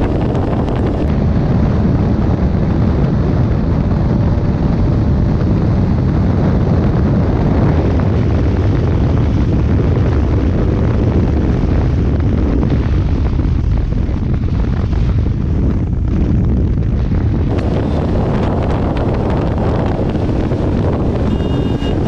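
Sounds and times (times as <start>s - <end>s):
motorcycle engine roaring at speed: 0.0s - 22.0s
wind buffeting microphone: 0.0s - 22.0s.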